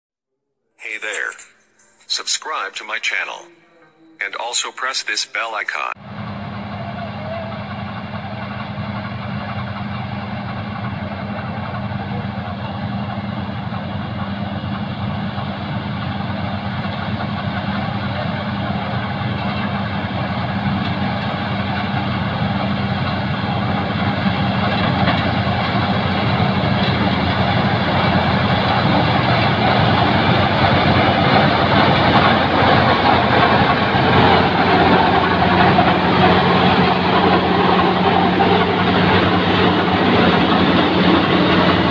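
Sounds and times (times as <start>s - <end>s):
combine harvester running: 0.9s - 3.4s, 5.8s - 41.9s.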